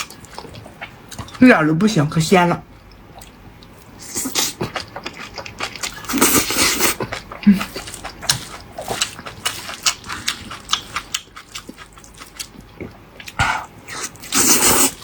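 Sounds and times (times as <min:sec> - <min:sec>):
person chewing and lip-smacking: 0:02.9 - 0:15.0.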